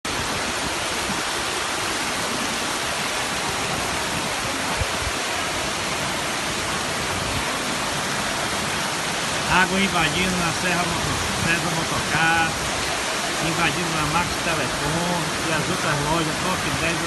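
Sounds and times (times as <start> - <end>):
floodwater running: 0.0 - 17.0
heavy rain: 0.0 - 17.0.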